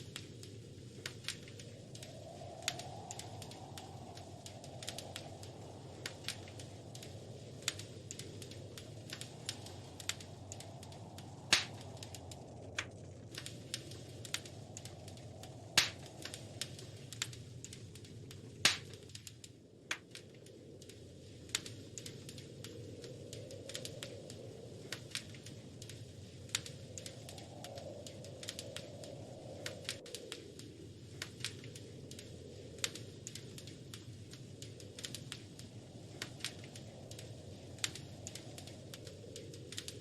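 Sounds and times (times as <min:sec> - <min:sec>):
loud fire snaps: 0:00.0 - 0:40.0
wood fire crackling: 0:00.0 - 0:40.0.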